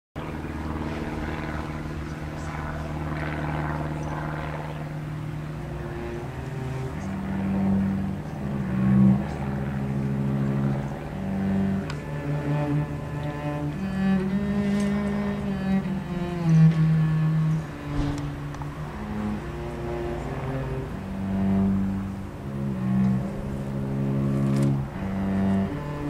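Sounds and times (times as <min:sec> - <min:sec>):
cello playing bowed notes: 0:00.2 - 0:26.0.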